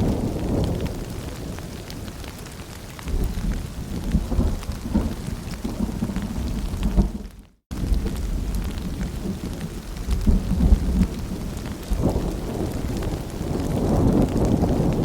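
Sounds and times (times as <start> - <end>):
rain pattering: 0.0 - 15.0
thunder rumbling: 0.0 - 15.0.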